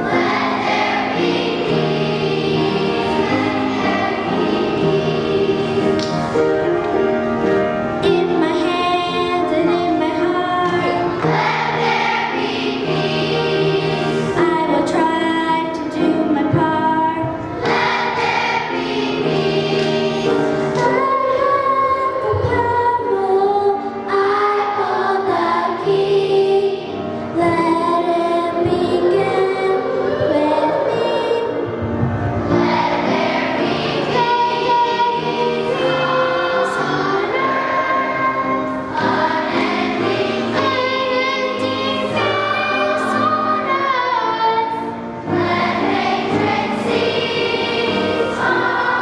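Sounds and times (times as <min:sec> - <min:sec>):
children's choir singing: 0:00.0 - 0:49.0.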